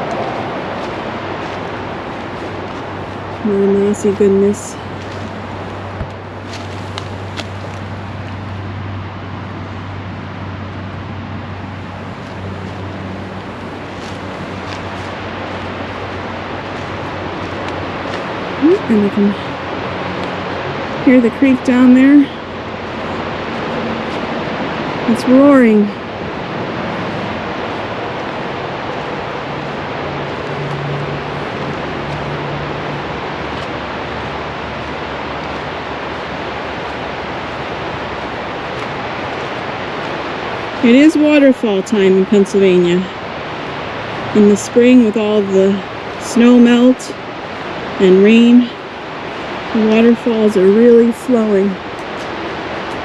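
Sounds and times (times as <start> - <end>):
creek rushing: 0.0 - 53.0.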